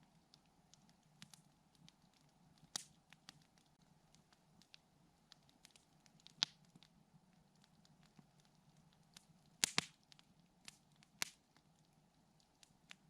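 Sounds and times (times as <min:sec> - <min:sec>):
burning wood popping: 0:00.0 - 0:13.0
campfire crackling: 0:00.0 - 0:13.0.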